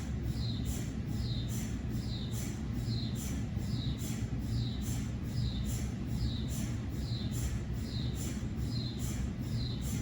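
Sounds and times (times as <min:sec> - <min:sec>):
mri scanner pulsing with chirps: 0:00.0 - 0:10.0
steady low hum: 0:00.0 - 0:10.0.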